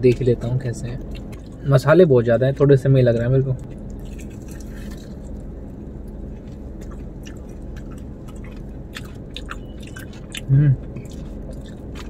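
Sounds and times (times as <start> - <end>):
crunchy food being chewed: 0.0 - 12.0
low hum: 0.0 - 12.0.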